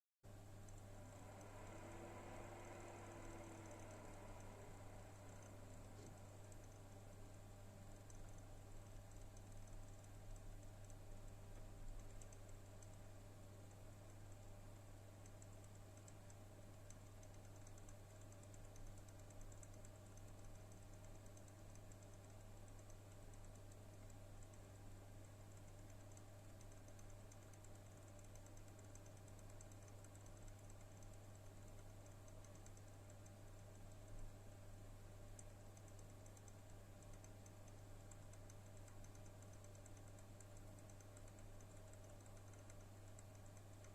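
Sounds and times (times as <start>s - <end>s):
steady low hum: 0.2s - 43.9s
graphics card fan ticking: 0.3s - 43.9s.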